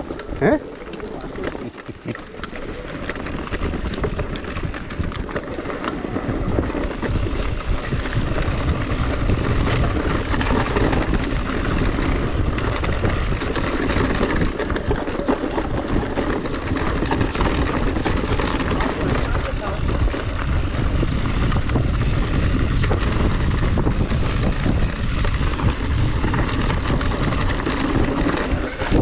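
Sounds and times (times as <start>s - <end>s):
bike frame and chain rattling: 0.0s - 29.0s
tyres on dirt and gravel: 0.0s - 29.0s
wind on camera microphone: 0.0s - 29.0s.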